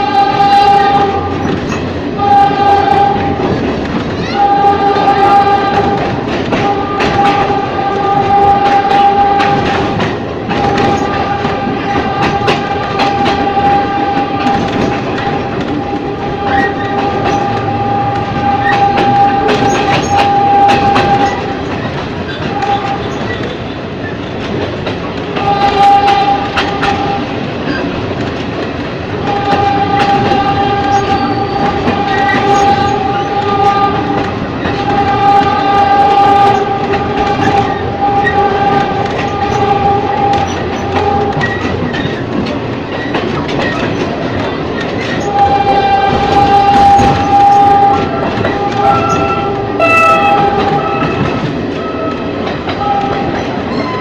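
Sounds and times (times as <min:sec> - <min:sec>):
wheels clacking on rail joints: 0:00.0 - 0:54.0.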